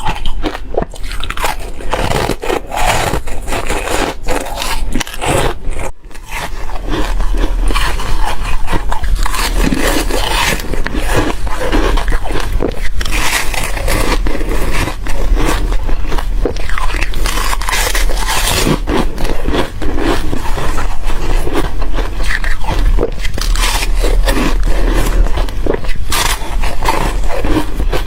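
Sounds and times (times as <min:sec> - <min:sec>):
chewing crispy foam crunches: 0:00.0 - 0:28.0.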